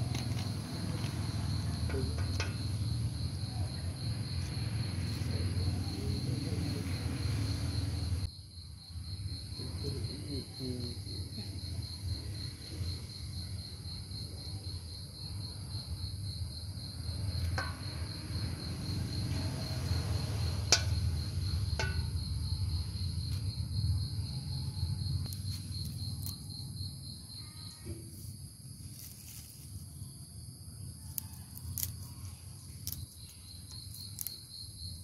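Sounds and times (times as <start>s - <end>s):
insect chirping: 0.0s - 35.0s.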